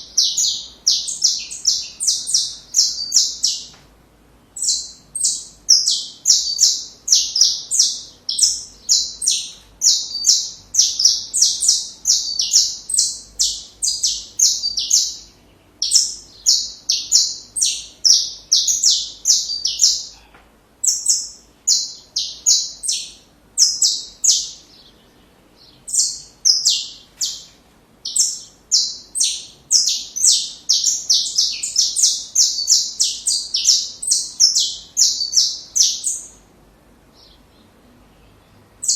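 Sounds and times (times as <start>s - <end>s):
finch singing high chirping notes: 0.0s - 3.8s, 4.5s - 36.4s, 37.1s - 38.9s.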